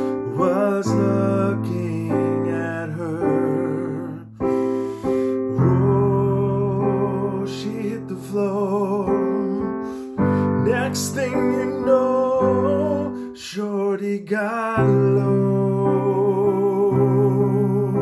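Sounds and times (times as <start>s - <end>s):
man singing a ballad: 0.0s - 18.0s
piano accompaniment: 0.0s - 18.0s.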